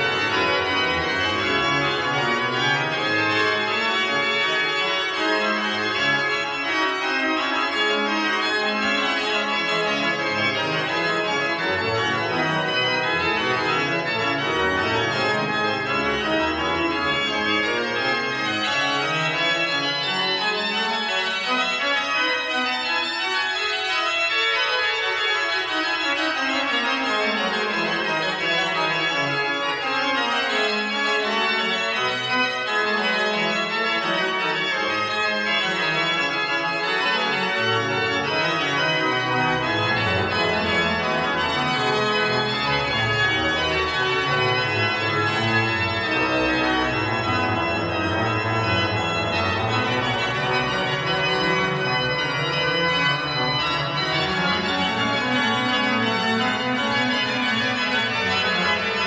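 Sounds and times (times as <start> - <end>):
pipe organ playing: 0.0 - 59.0.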